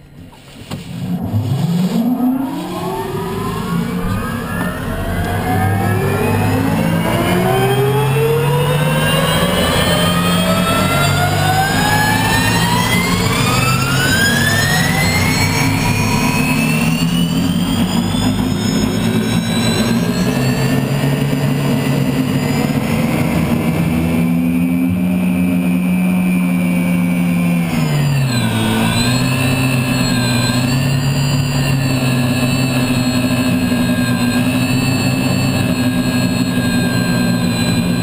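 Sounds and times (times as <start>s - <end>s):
turbine engine whine: 0.0s - 38.0s.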